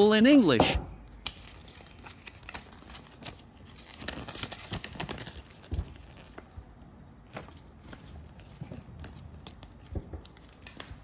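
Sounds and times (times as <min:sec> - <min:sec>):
paper rustling: 0:01.2 - 0:11.0.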